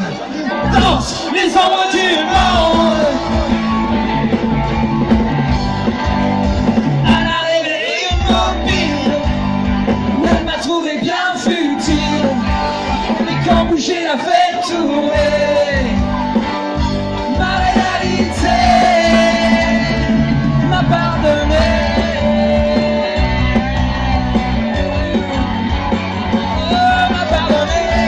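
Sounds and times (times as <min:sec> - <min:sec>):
bass guitar: 0:00.0 - 0:28.0
drums: 0:00.0 - 0:28.0
electric guitars: 0:00.0 - 0:28.0
man singing: 0:00.6 - 0:03.6, 0:07.0 - 0:09.5, 0:10.1 - 0:25.6, 0:26.2 - 0:28.0.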